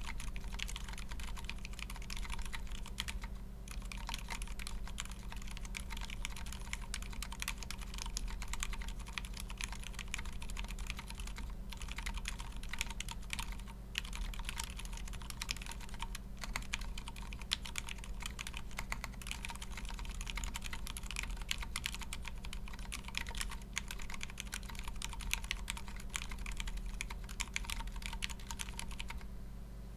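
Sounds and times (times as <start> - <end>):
quiet mechanical keyboard typing: 0.0 - 29.3
low electrical hum: 0.0 - 29.9.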